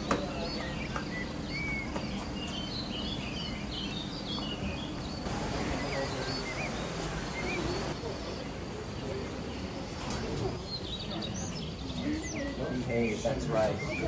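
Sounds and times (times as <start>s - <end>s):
small birds chirping: 0.0s - 14.0s
steady background noise: 0.0s - 14.0s.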